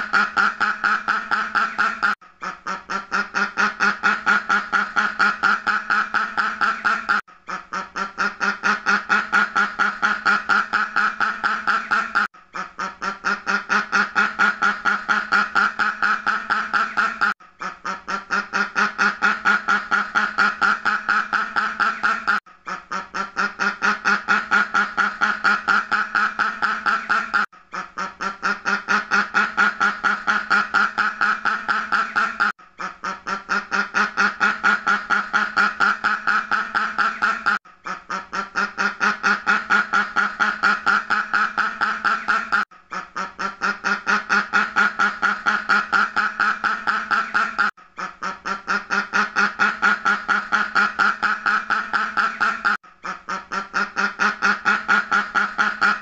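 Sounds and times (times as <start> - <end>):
duck quacking rapidly: 0.0 - 56.0.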